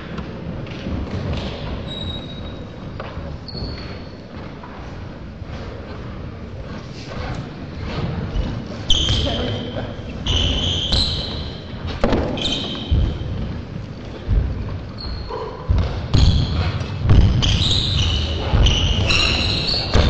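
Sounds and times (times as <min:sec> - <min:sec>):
court shoes squeaking on floor: 0:01.2 - 0:04.6, 0:07.2 - 0:20.0.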